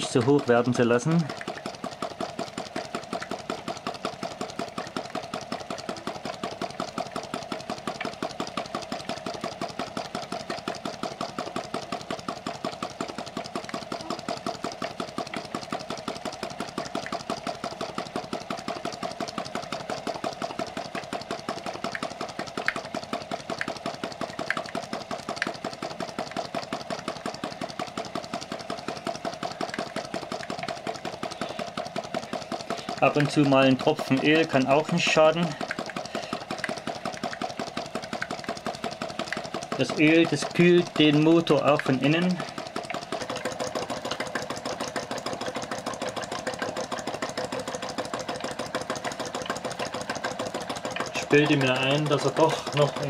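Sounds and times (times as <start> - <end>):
hot-air engine running: 0.0 - 53.0
sharp clicks: 0.0 - 53.0.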